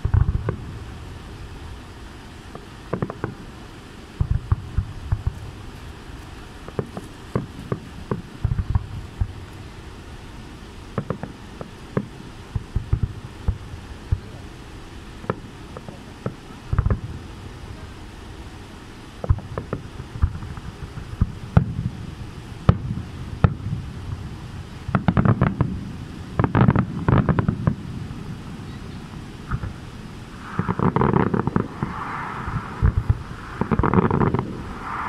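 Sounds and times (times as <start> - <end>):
fireworks booming and cracking: 0.0 - 35.0.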